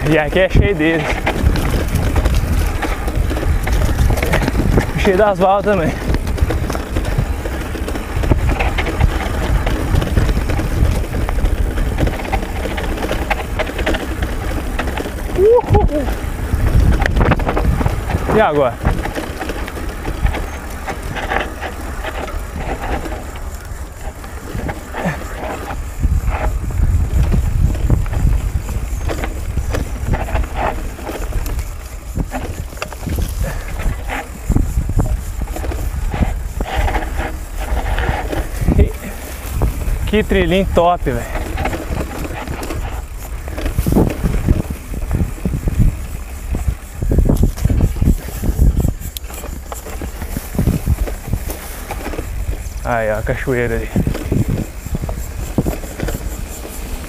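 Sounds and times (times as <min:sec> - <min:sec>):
bike chain and frame rattling: 0:00.0 - 0:57.0
bike tyres on dirt: 0:00.0 - 0:57.0
wind on microphone: 0:00.0 - 0:57.0.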